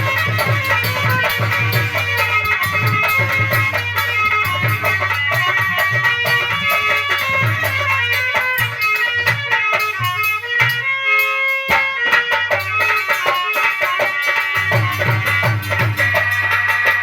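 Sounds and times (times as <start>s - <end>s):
dholak drumming fast rhythm: 0.0s - 17.0s.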